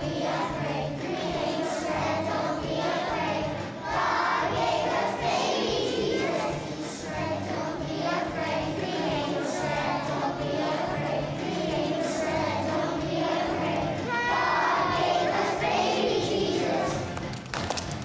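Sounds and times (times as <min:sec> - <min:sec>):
children's choir singing: 0:00.0 - 0:17.2.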